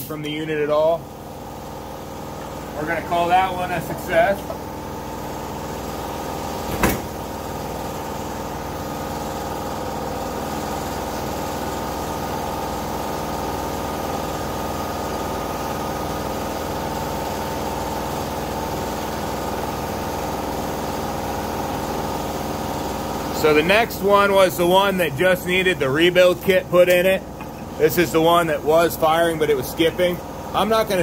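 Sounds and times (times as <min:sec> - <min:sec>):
machinery humming: 0:00.0 - 0:13.0, 0:16.8 - 0:31.0.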